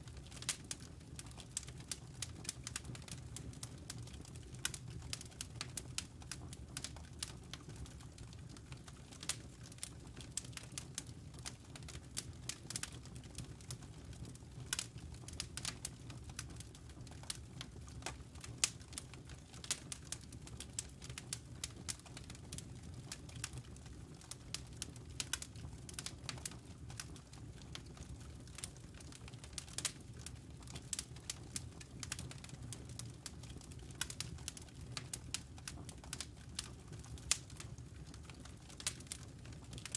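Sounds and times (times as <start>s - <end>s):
low rumble of burning fire: 0.0s - 39.9s
embers popping and snapping: 0.2s - 39.9s.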